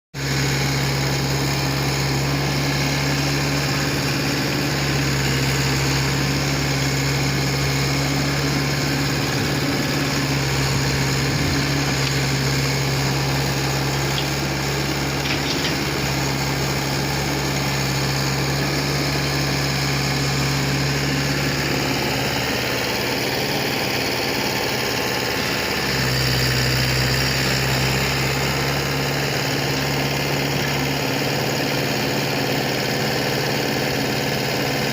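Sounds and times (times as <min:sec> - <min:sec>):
backhoe diesel engine running: 0:00.2 - 0:34.9.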